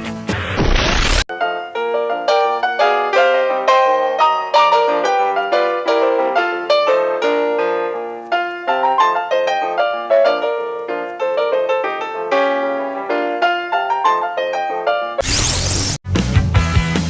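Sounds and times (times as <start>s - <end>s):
lively piano music: 1.3s - 15.2s.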